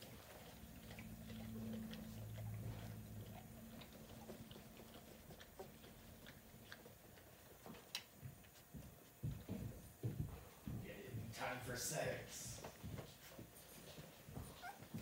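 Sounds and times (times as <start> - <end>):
dog licking puppies: 0.0 - 15.0
low steady hum: 0.0 - 15.0.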